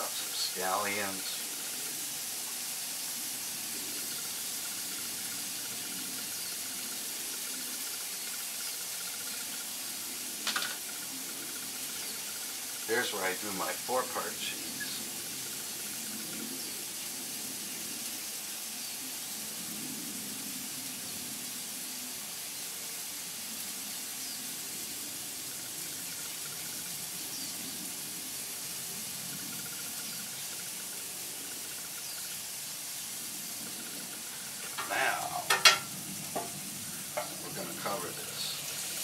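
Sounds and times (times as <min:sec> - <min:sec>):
steaks sizzling on a griddle: 0:00.0 - 0:39.0.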